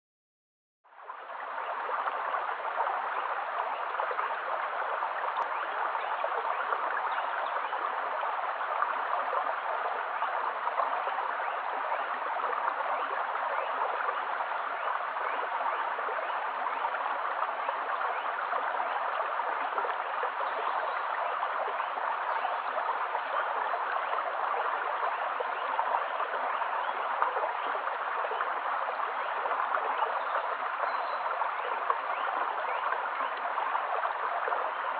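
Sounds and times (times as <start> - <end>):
stream flowing over pebbles: 0.8 - 34.9.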